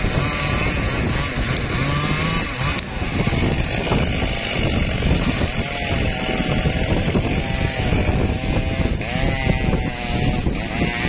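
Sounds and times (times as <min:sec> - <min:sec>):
chainsaw cutting wood: 0:00.0 - 0:11.0
wind buffeting microphone: 0:00.0 - 0:11.0.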